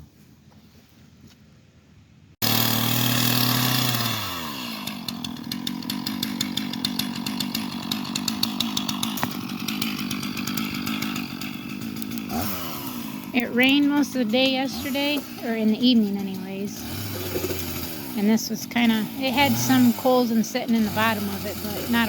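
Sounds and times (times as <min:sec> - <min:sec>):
chainsaw running: 0:02.4 - 0:22.0.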